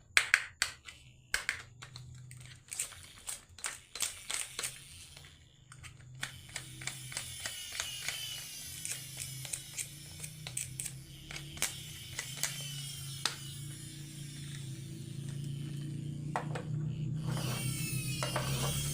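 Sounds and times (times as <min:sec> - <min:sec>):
steady low hum: 0:00.8 - 0:18.9.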